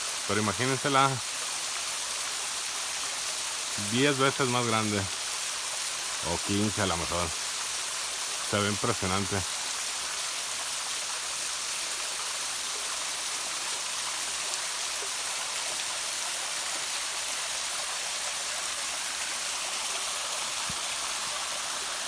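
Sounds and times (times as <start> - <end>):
small waterfall rushing: 0.0 - 22.0.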